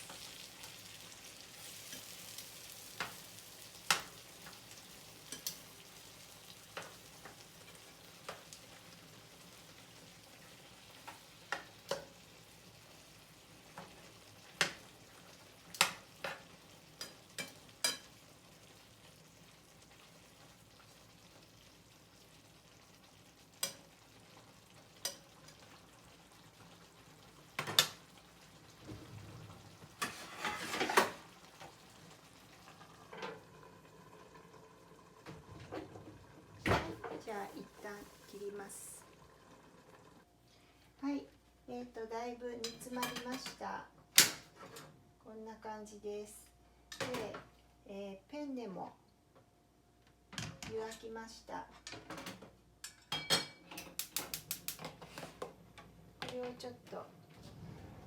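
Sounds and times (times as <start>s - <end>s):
sauce sizzling in a frying pan: 0.0s - 44.5s, 53.7s - 56.8s.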